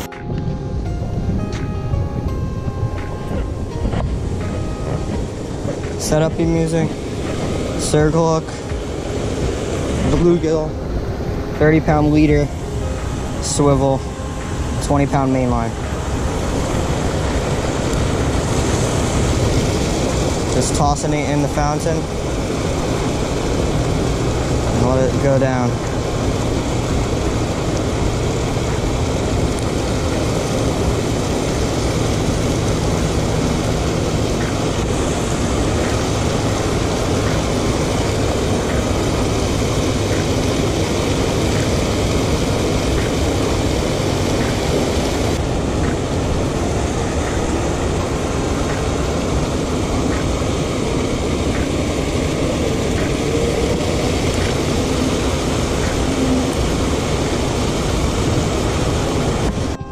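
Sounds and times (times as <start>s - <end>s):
water rushing over a weir: 0.0s - 59.9s.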